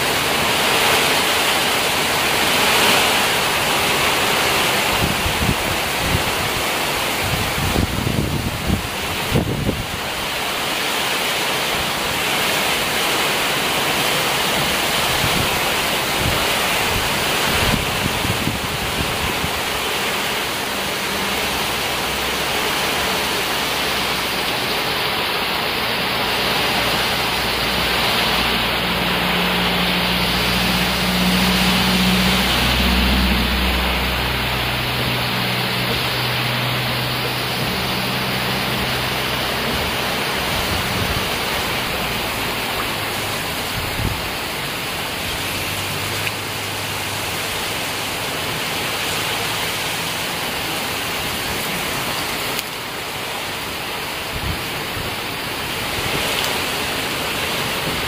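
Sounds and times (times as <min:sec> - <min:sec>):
heavy rain pouring: 0:00.0 - 0:58.0
water dripping off a roof: 0:00.0 - 0:58.0.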